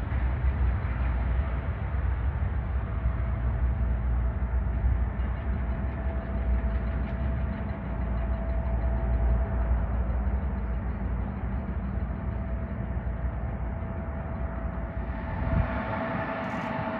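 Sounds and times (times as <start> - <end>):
faint engine whine: 0.0 - 16.9
jet engines rumbling: 0.0 - 16.9.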